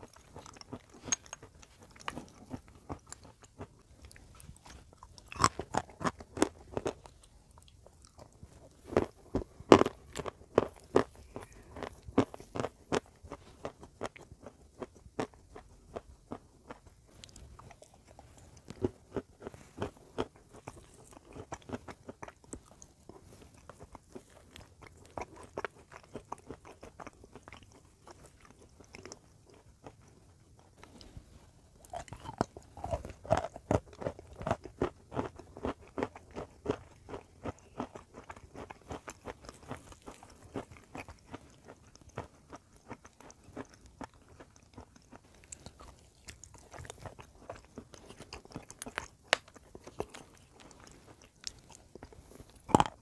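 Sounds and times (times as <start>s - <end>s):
crunching and chewing brittle chunks: 0.0s - 53.0s.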